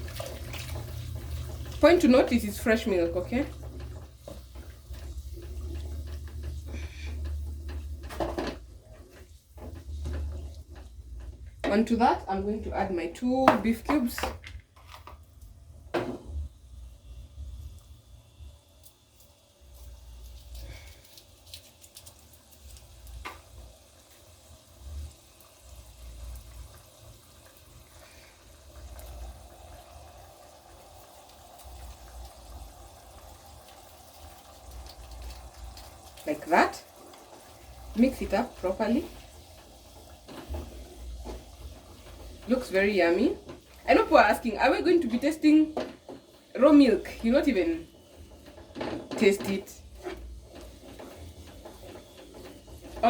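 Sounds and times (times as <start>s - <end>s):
stew sloshing in a pot: 0.0s - 12.3s, 18.8s - 53.0s.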